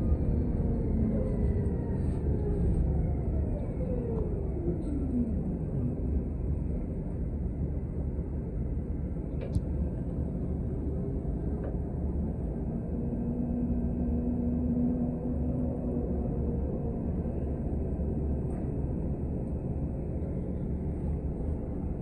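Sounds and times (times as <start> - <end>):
bus engine and road rumble: 0.0 - 22.0
whine: 0.0 - 22.0.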